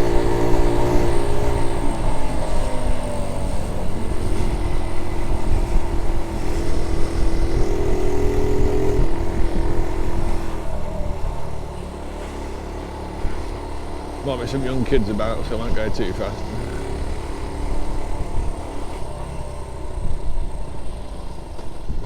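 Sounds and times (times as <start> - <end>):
small motorbike engine running: 0.0 - 22.0.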